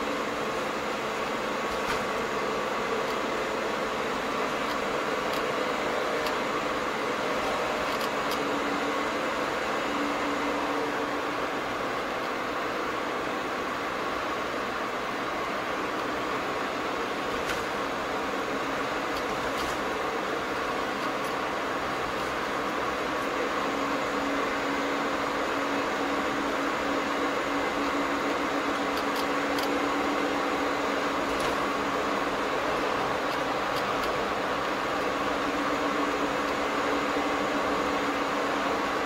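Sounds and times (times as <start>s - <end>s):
car road and engine noise: 0.0s - 39.0s.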